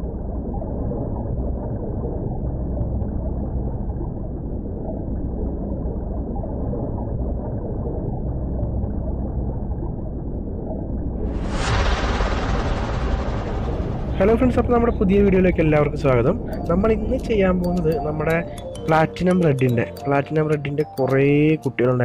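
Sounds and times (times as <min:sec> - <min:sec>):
muffled underwater rumble: 0:00.0 - 0:17.8.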